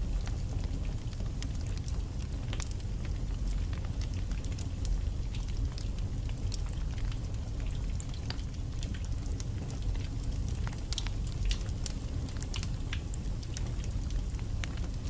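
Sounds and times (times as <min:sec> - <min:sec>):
fire crackling and popping: 0:00.0 - 0:15.0
low rumble of fire: 0:00.0 - 0:15.0.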